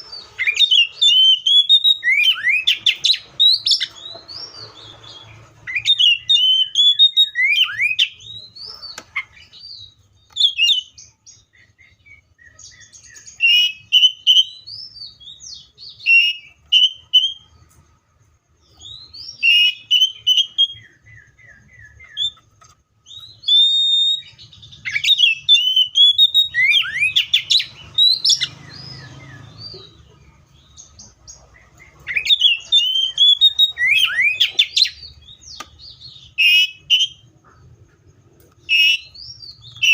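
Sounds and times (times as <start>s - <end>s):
bird singing varied whistles: 0.0s - 17.5s, 18.7s - 29.8s, 31.0s - 37.2s, 38.6s - 39.9s.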